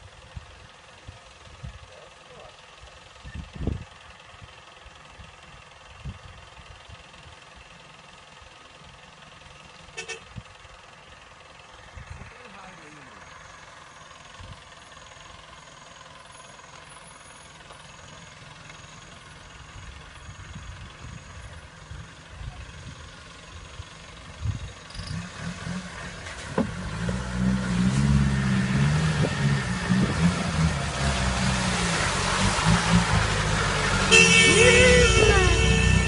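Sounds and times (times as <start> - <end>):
off-road vehicle engine: 0.0 - 36.0.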